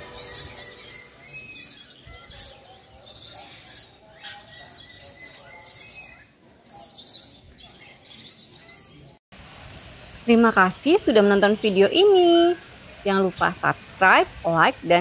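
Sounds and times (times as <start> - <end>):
birds chirping: 0.0 - 9.2, 9.8 - 15.0.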